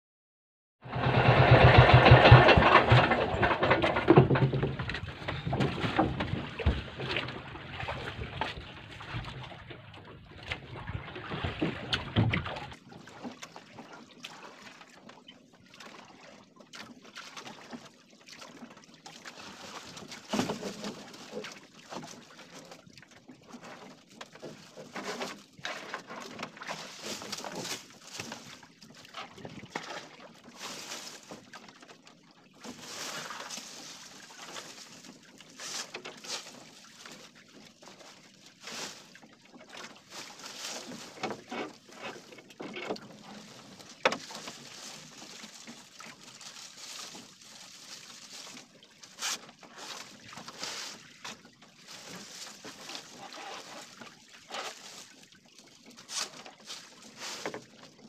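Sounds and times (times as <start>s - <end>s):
water lapping against boat hull: 0.8s - 58.0s.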